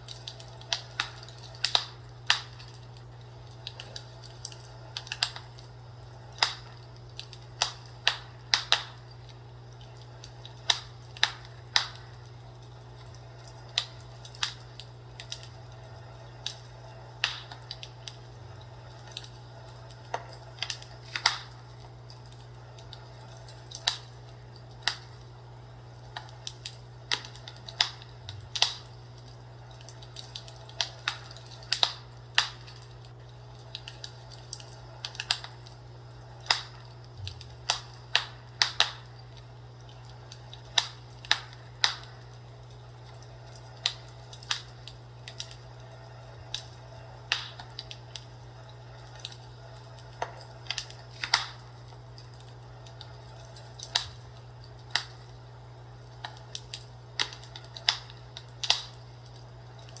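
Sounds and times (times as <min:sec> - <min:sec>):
fireplace crackling: 0:00.0 - 1:00.0
steady low hum: 0:00.0 - 1:00.0.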